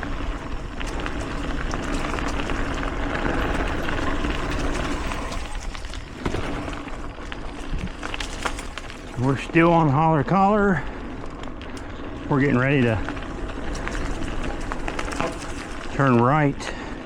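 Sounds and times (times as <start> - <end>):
bike rattles and clicks: 0.0 - 17.0
bike tyres on dirt trail: 0.0 - 17.0.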